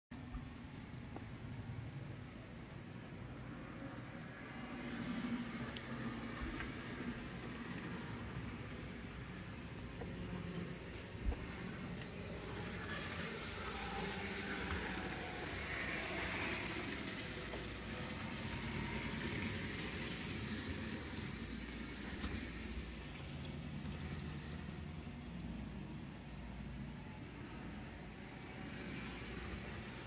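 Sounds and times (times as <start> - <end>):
model train hum and rolling wheels: 0.2 - 30.0.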